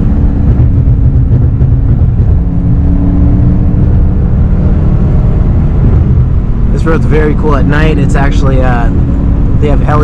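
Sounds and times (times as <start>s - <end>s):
car engine running: 0.0s - 10.0s
low road rumble: 0.0s - 10.0s.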